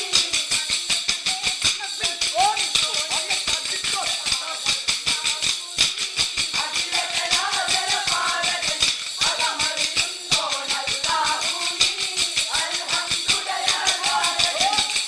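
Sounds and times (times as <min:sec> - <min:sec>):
group singing: 0:00.0 - 0:15.0
wooden sticks clacking: 0:00.0 - 0:15.0.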